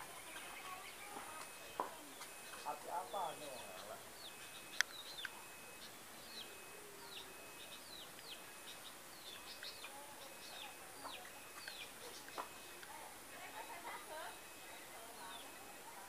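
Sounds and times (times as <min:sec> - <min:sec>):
whistled bird notes: 0:00.0 - 0:12.9
small birds chirping: 0:00.0 - 0:16.0.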